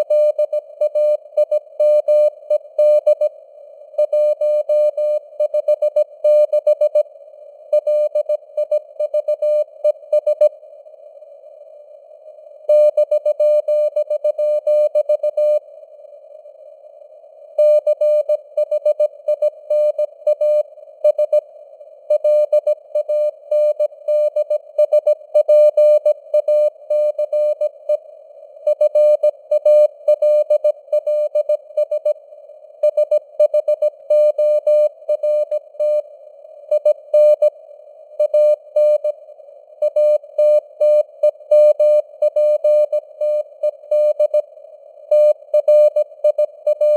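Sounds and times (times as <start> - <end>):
receiver hiss: 0.0 - 46.9.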